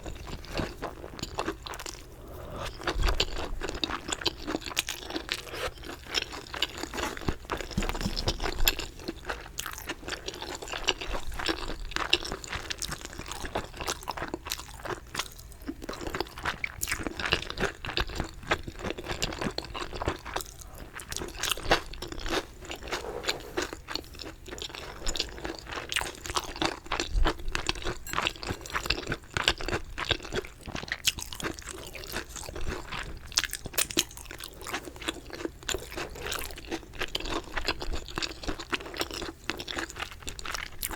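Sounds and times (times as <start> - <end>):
chicken being chewed crunchily: 0.0 - 40.9.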